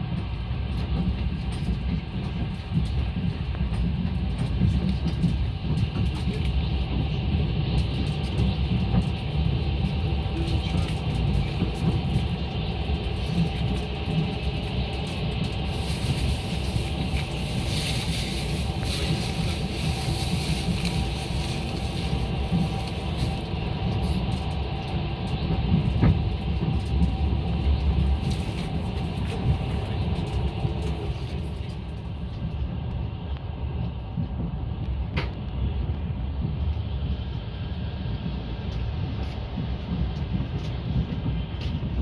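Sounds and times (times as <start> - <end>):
train low rumble: 0.0 - 42.0.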